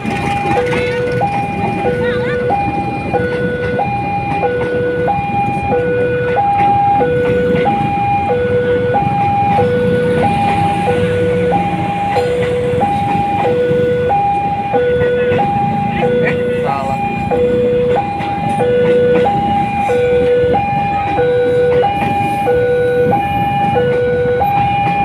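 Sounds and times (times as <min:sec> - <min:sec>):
level crossing two-tone alarm: 0:00.0 - 0:25.0.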